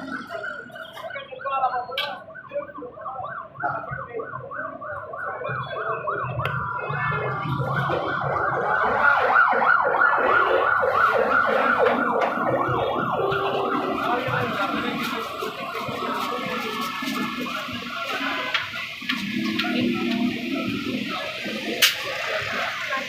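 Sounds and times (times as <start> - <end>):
siren yelping: 0.0 - 23.0.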